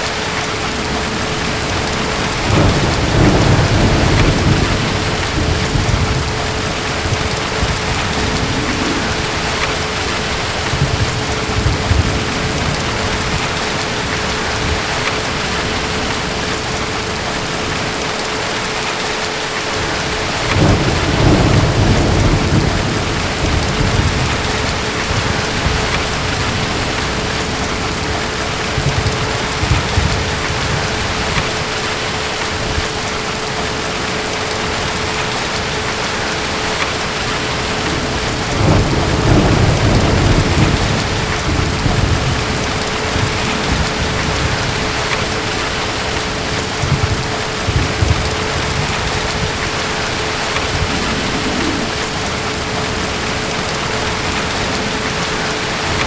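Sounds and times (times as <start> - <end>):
distant thunder rumbling: 0.0 - 56.0
heavy rain: 0.0 - 56.0.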